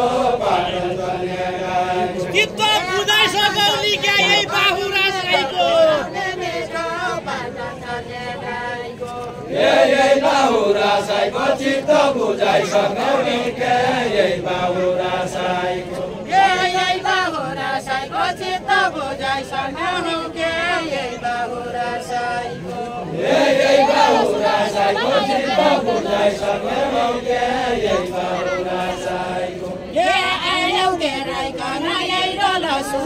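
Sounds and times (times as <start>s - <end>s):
group singing folk song: 0.0s - 33.0s.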